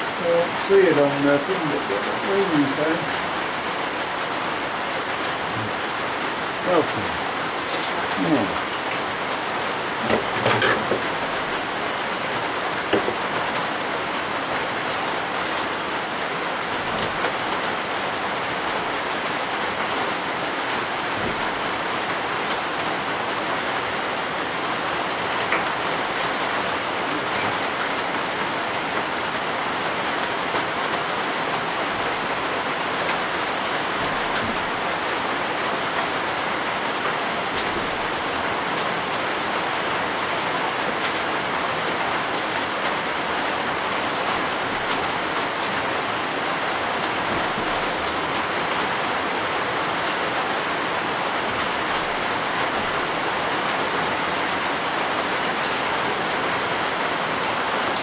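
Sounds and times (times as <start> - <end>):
rain on roof: 0.0 - 58.0.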